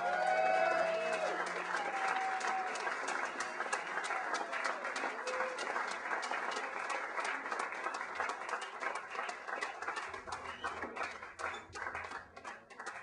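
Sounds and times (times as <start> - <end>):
audience clapping and cheering: 0.0 - 13.0.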